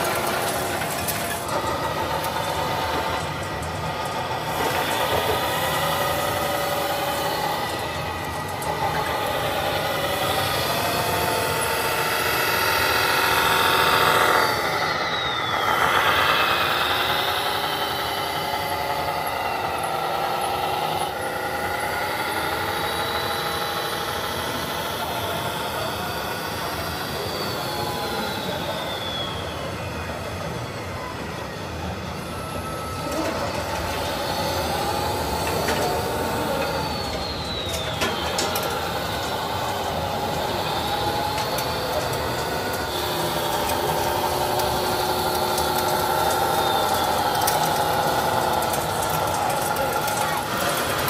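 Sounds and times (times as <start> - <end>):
whining model vehicle motors: 0.0 - 51.0.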